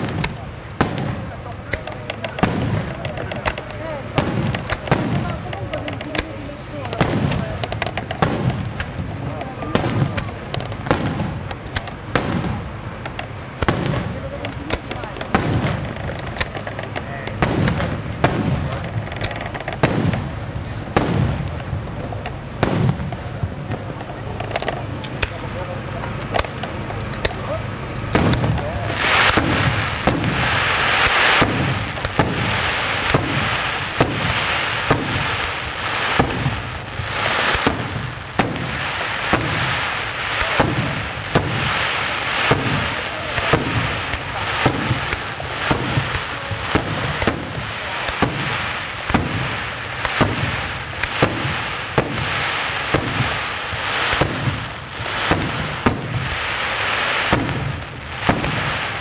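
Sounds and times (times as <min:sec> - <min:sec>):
continuous noisy wash: 0:00.0 - 0:59.0
firework bursts: 0:00.0 - 0:59.0.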